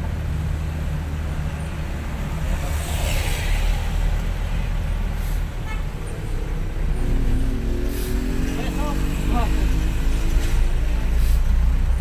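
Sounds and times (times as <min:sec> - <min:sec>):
bus engine running: 0:00.0 - 0:12.0
road and wind noise: 0:00.0 - 0:12.0.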